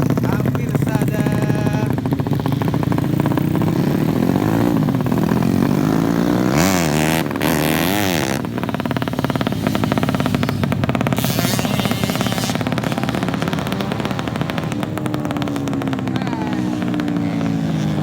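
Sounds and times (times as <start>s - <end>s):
racing motorcycle engines: 0.0s - 18.0s.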